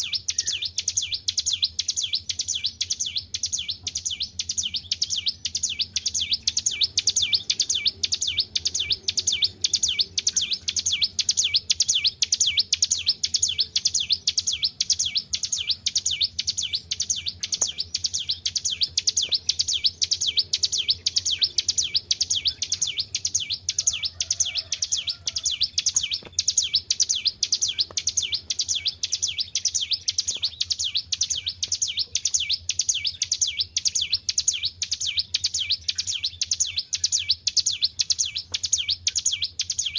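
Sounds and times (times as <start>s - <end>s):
bird singing high sharp notes: 0.0s - 39.9s.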